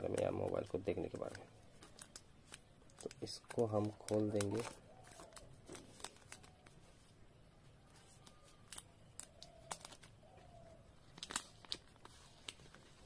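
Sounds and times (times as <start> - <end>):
plastic film crinkling: 0.0 - 7.2, 7.8 - 13.0.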